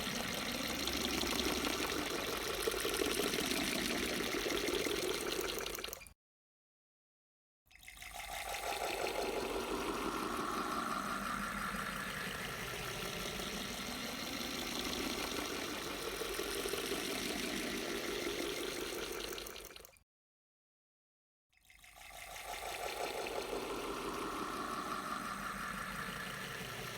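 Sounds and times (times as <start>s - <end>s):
water pouring into a glass: 0.0s - 6.0s, 7.8s - 19.9s, 21.6s - 26.9s.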